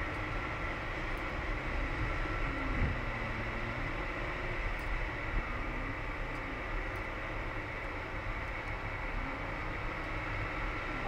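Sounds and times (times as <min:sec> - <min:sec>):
car engine hum: 0:00.0 - 0:11.0
road and tyre noise: 0:00.0 - 0:11.0.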